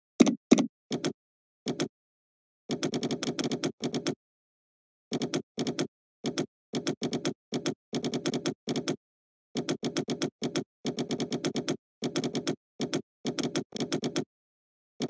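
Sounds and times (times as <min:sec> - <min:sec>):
computer keyboard typing: 0:00.2 - 0:01.9, 0:02.7 - 0:04.2, 0:05.1 - 0:14.3.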